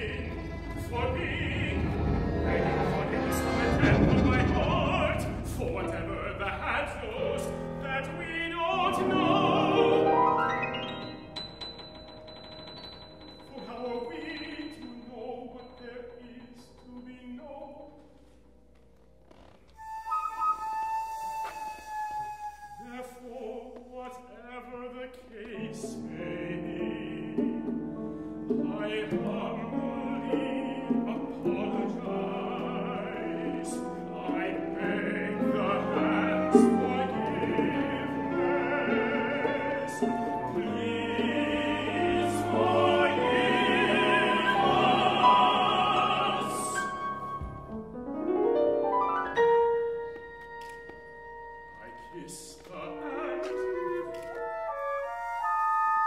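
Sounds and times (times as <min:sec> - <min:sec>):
male operatic singing: 0:00.0 - 0:11.1, 0:13.4 - 0:18.3, 0:22.7 - 0:47.7, 0:51.7 - 0:55.8
small ensemble playing: 0:00.0 - 0:15.2, 0:25.3 - 0:56.0.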